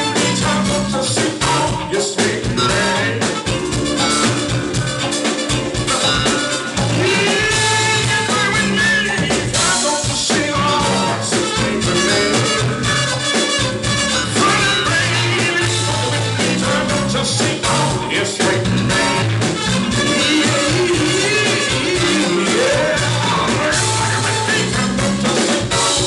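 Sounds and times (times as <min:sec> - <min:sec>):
band music with singing: 0:00.0 - 0:26.0
bass line: 0:00.0 - 0:26.0
drums: 0:00.0 - 0:26.0.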